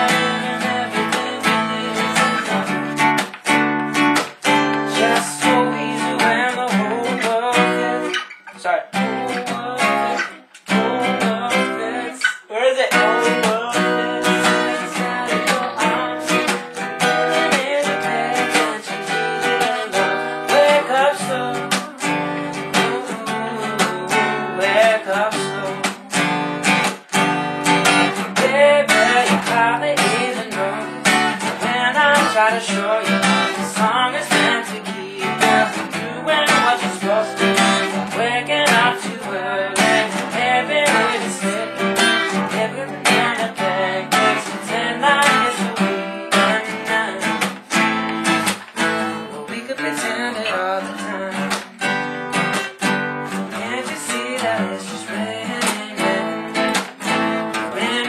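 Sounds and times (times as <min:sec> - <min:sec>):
acoustic guitars strumming chords: 0:00.0 - 0:58.0.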